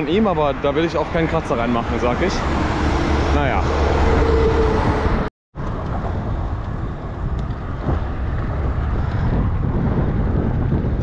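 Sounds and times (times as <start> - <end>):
wind buffeting microphone: 2.2 - 11.0.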